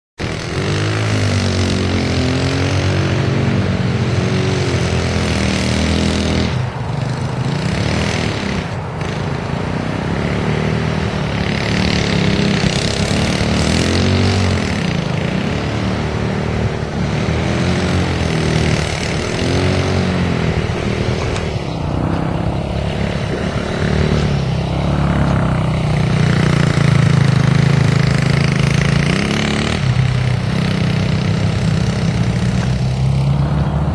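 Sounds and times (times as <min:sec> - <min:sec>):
quad bike engine revving: 0:00.2 - 0:33.9.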